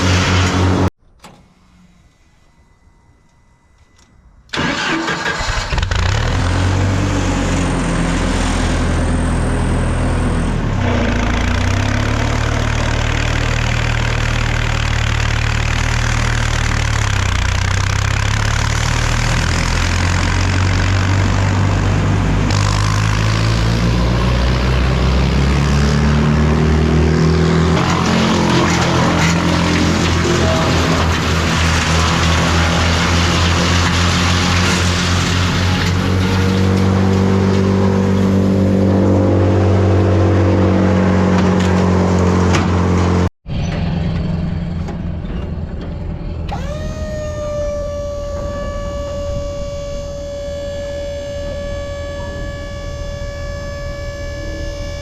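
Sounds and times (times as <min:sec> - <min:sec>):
large engine running loudly: 0:00.0 - 0:00.9, 0:05.7 - 0:55.0.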